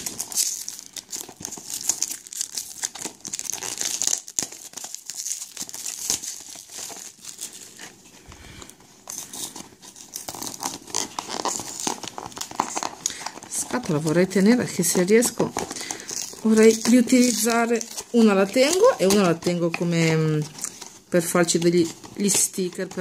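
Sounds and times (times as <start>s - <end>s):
cardboard packaging crinkling and tearing: 0.0s - 23.0s.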